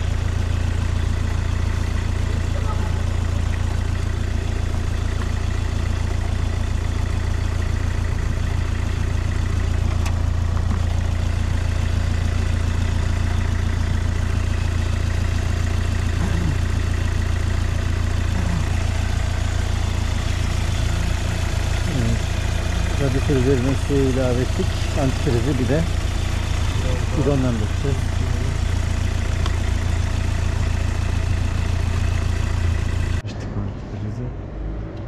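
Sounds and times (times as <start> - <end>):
car engine idling: 0.0 - 34.5.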